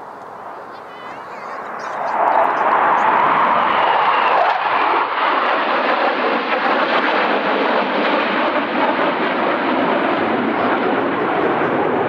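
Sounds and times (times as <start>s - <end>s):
jets passing: 0.0s - 12.0s.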